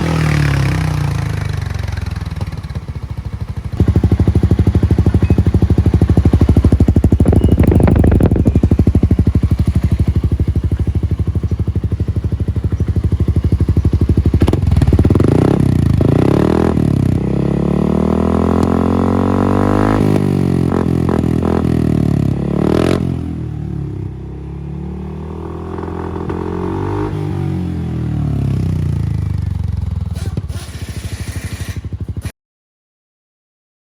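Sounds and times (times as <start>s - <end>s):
scooter engine revving: 0.0s - 32.3s.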